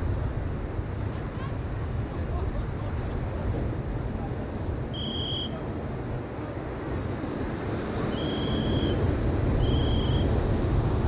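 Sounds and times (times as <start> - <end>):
wind rumble on microphone: 0.0 - 11.0
surf breaking on beach: 1.0 - 11.0.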